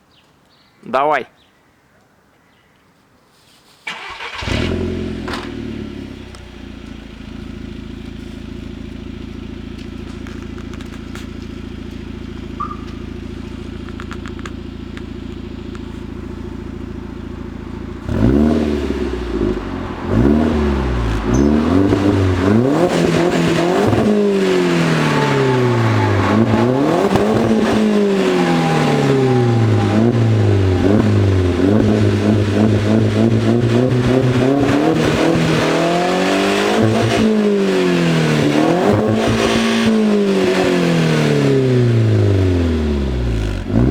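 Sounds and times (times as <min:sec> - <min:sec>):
car engine idling and revving: 0:03.9 - 0:43.9.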